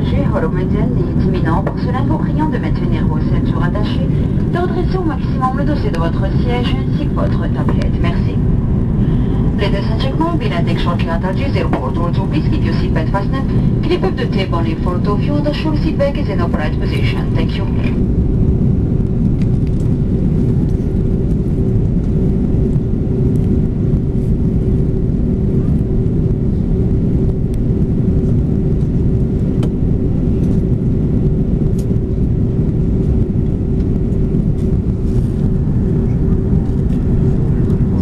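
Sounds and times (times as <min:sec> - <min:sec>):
airliner cabin engine rumble: 0:00.0 - 0:38.0.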